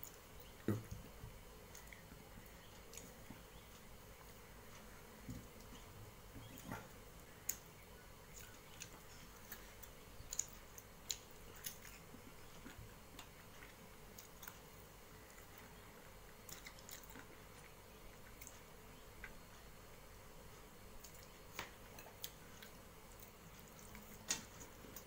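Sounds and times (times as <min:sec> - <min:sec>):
chewing: 0:01.6 - 0:19.8, 0:20.6 - 0:25.0.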